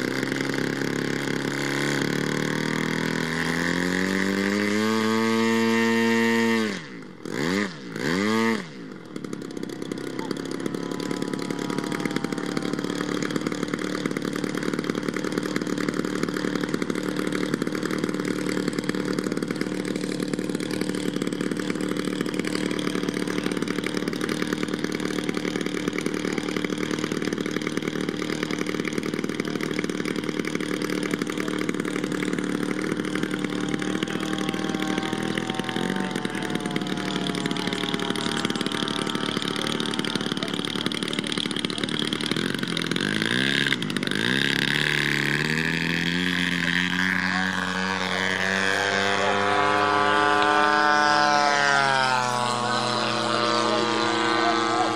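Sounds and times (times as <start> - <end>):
model plane engine revving: 0.0 - 54.9.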